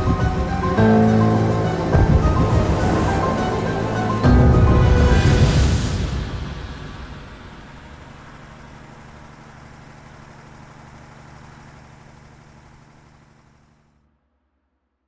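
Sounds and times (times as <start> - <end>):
bus engine driving past: 0.0 - 13.8.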